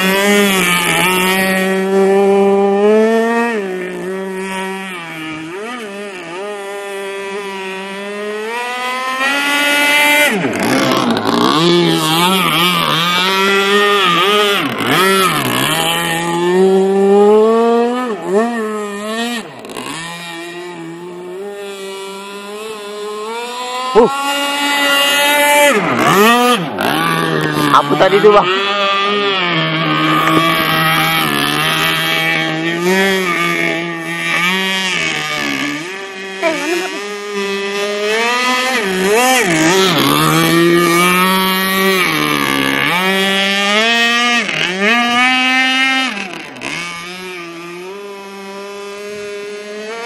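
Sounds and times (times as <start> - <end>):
model boat engine revving: 0.0 - 50.0.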